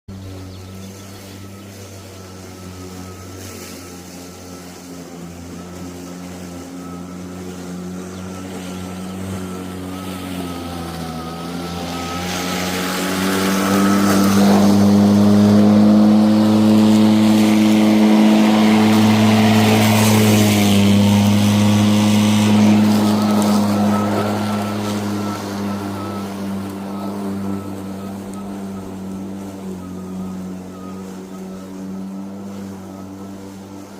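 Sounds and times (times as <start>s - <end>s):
lawn mower humming: 0.1s - 33.9s.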